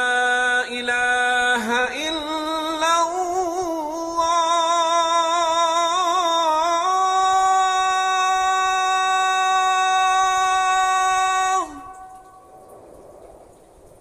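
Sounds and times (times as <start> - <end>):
man singing call to prayer: 0.0 - 12.2.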